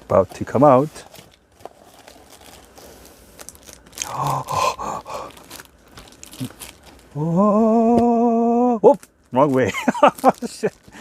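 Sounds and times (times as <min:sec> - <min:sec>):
packaging crunching and crinkling: 0:00.0 - 0:07.3, 0:08.8 - 0:11.0.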